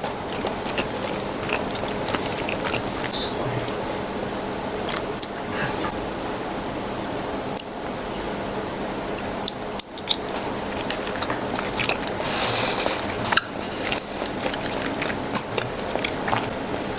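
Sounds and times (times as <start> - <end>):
mouth clicks and crunches: 0.0 - 6.2, 9.2 - 16.9.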